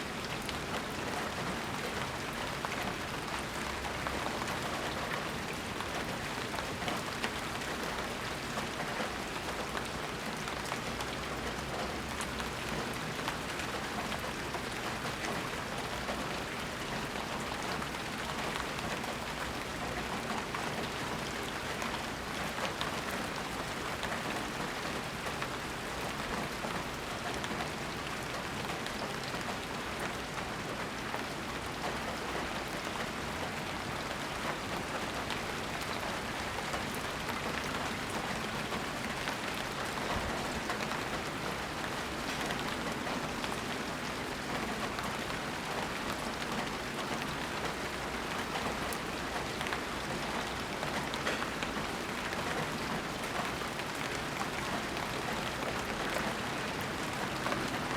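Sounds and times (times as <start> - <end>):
steady rain pattering: 0.0 - 57.9.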